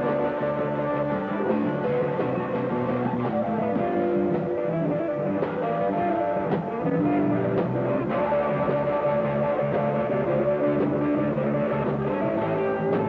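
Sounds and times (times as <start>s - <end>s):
blues harmonica bending notes: 0.0s - 13.0s
live band with guitar: 0.0s - 13.0s.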